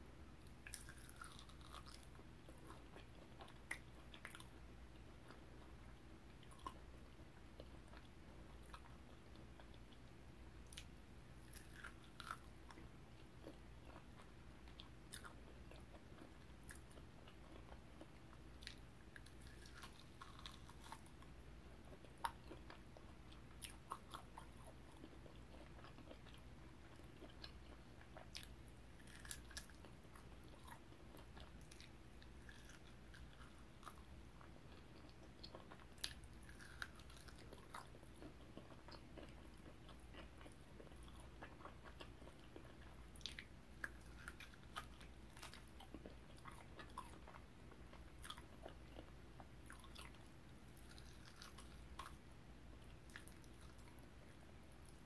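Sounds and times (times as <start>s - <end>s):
low steady hum: 0.0s - 55.0s
biting and chewing: 0.6s - 4.6s, 10.7s - 21.3s, 21.9s - 52.2s.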